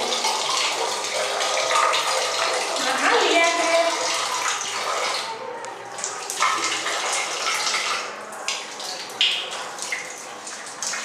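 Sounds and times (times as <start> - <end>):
tap water splashing on tiles: 0.0 - 5.2, 5.9 - 11.0.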